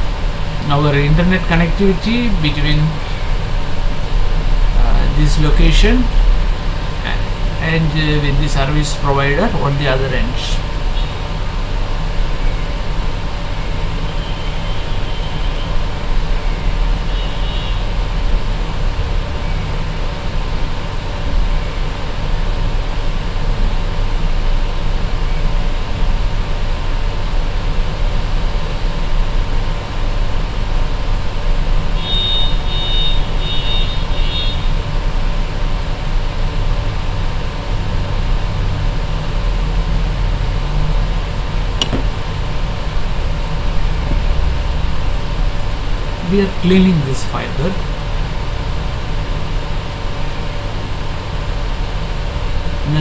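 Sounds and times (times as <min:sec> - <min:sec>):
room hum and rumble: 0:00.0 - 0:53.0.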